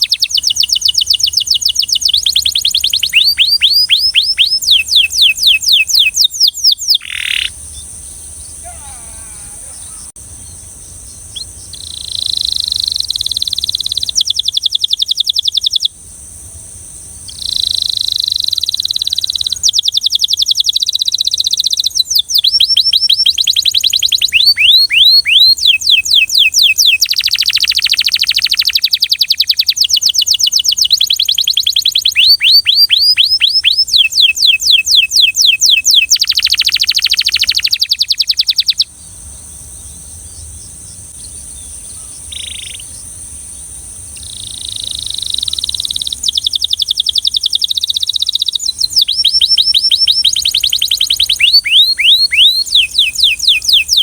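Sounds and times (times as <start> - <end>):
canary singing: 0.0 - 15.9, 17.3 - 38.9, 39.8 - 43.2, 44.0 - 54.0.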